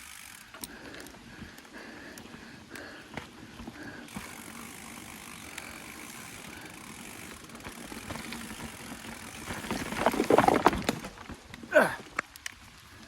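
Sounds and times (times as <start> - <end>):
mountain bike rolling and rattling: 0.0 - 13.0.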